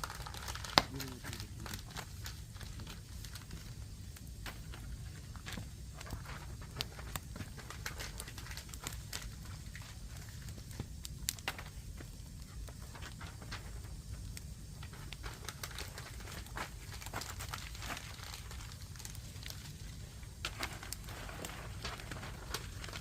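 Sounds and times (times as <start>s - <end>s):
firewood fire crackling and popping: 0.0s - 23.0s.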